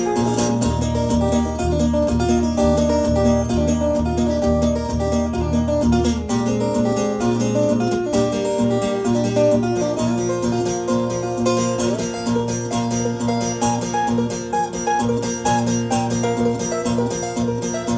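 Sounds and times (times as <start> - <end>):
fingerstyle acoustic guitar: 0.0 - 17.9.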